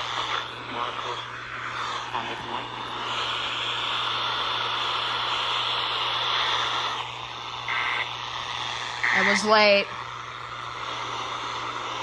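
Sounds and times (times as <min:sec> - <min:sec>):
buzzy digital data burst: 0:00.0 - 0:12.0
radio static hiss: 0:00.0 - 0:12.0.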